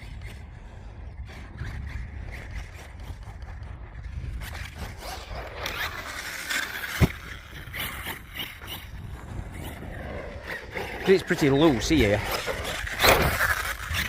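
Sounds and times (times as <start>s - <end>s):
toy truck tyres scrabbling on dirt: 0.0s - 14.0s.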